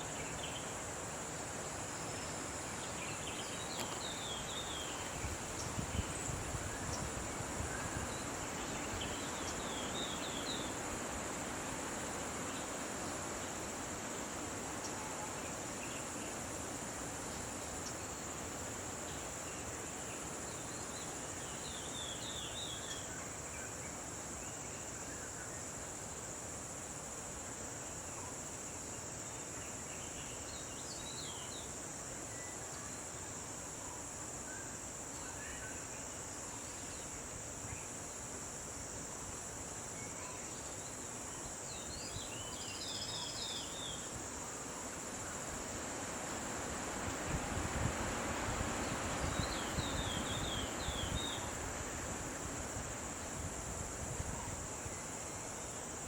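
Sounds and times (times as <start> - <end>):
background hiss: 0.0 - 56.0
insects droning: 0.0 - 56.0.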